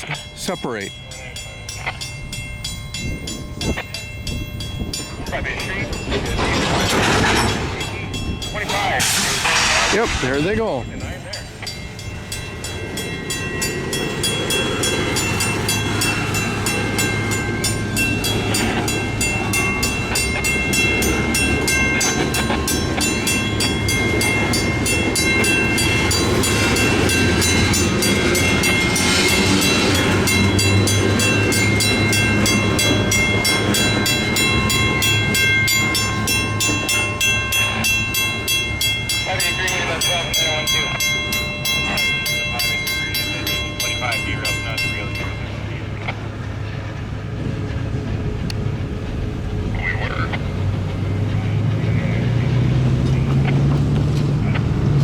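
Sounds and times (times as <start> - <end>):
diesel locomotive engines running: 0.0 - 55.0
locomotive bell ringing: 0.0 - 55.0.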